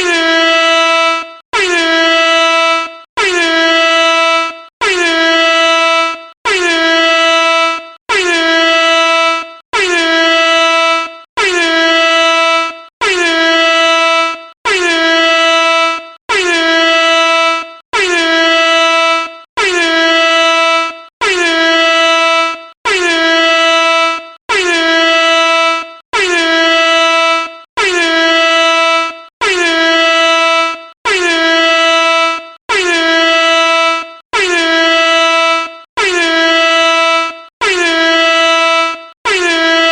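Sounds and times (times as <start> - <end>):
air horn blasts: 0.0 - 39.9.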